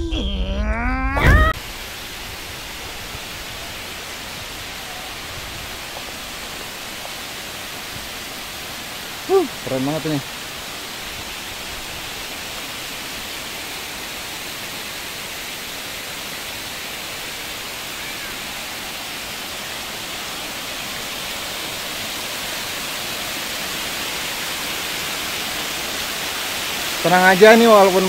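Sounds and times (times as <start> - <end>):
waterfall rushing water: 1.5 - 28.0.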